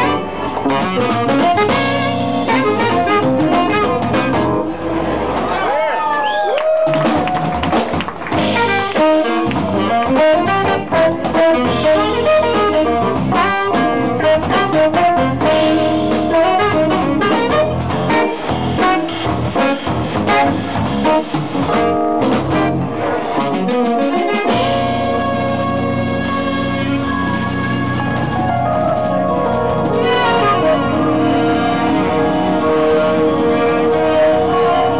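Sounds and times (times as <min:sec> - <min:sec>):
tenor saxophone fast runs: 0:00.0 - 0:04.6, 0:08.4 - 0:28.5, 0:29.8 - 0:34.9
jazz band with drum kit: 0:00.0 - 0:05.2, 0:06.6 - 0:34.9.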